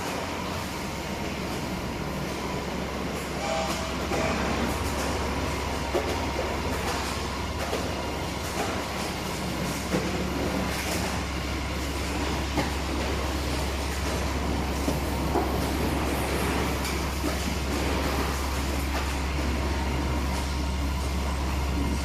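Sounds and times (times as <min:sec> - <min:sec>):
machine hum and rattle: 0:00.0 - 0:22.0.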